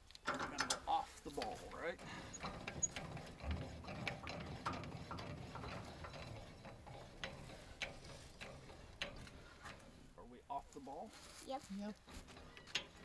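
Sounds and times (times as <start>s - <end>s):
metallic clicks of trailer hitch: 0.0s - 11.0s, 12.0s - 13.0s.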